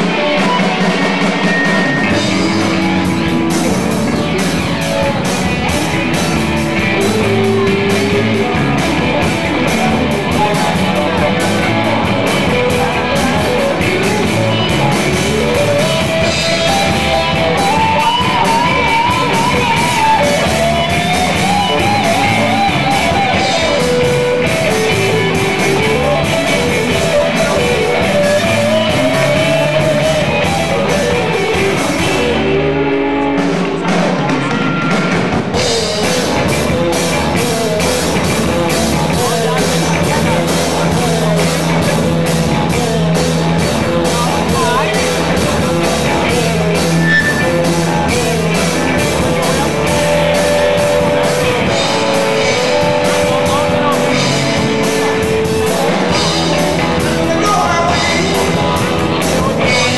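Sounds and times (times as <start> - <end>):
live rock band playing: 0.0 - 59.9
wavering held lead notes: 0.0 - 59.9.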